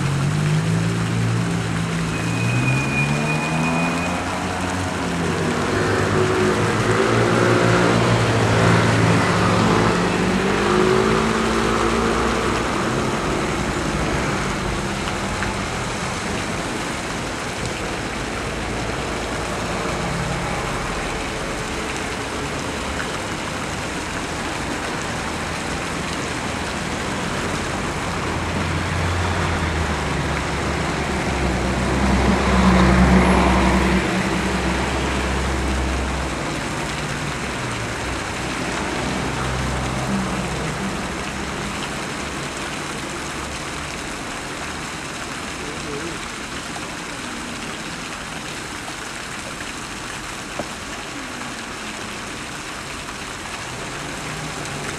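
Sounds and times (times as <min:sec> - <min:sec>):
hum of passing cars: 0:00.0 - 0:54.9.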